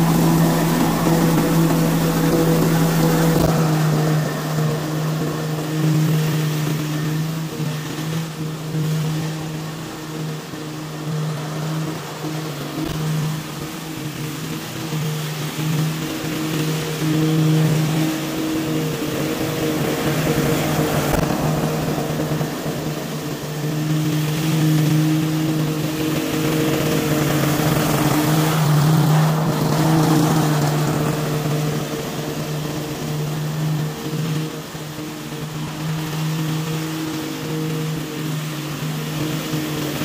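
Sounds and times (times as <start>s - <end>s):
lawn mower cutting grass: 0.0s - 40.0s.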